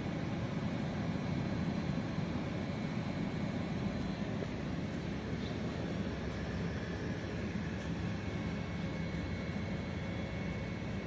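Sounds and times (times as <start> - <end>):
extraction fan running: 0.0 - 11.0.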